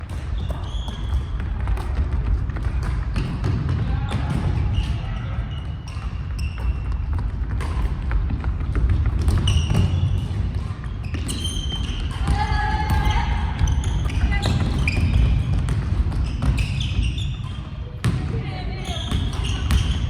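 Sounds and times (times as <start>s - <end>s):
basketballs bouncing on court: 0.0s - 20.0s
shoe squeaks: 0.1s - 2.0s, 4.0s - 7.4s, 9.2s - 20.0s.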